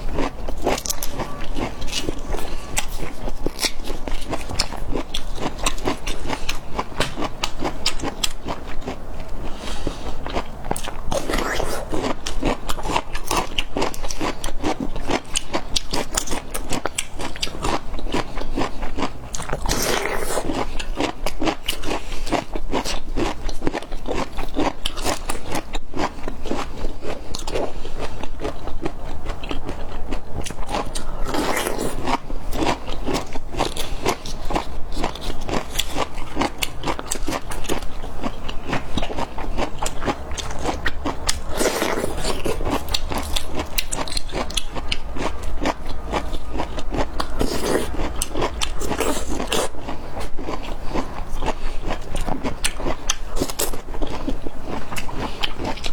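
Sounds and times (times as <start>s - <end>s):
crunching and chewing bamboo: 0.0s - 55.9s.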